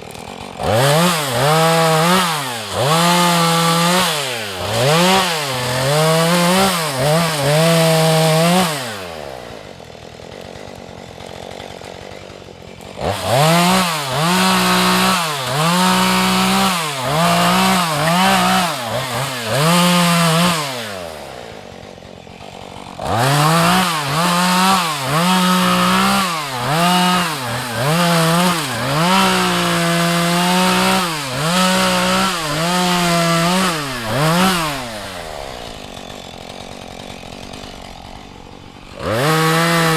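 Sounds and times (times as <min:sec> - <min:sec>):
chainsaw idling: 0:00.0 - 0:39.9
chainsaw revving while cutting: 0:00.0 - 0:39.9.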